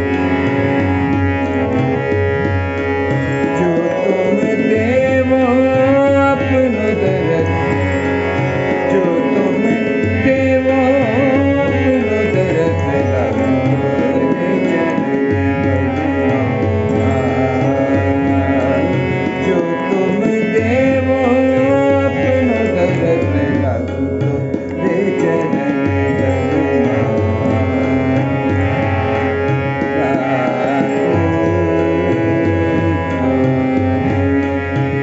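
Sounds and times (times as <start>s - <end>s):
man singing classical vocal: 3.1s - 35.0s.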